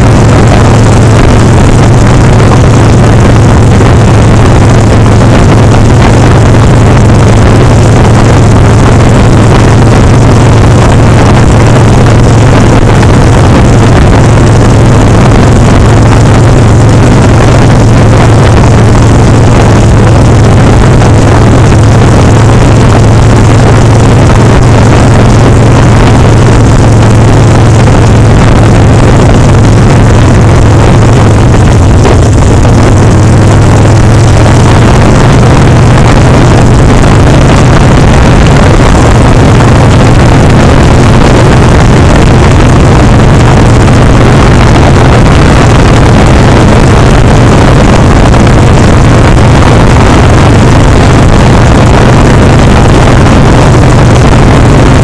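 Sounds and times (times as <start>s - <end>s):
motorcycle engine cruising: 0.0s - 44.0s, 49.6s - 55.0s
wind noise on microphone: 0.0s - 55.0s.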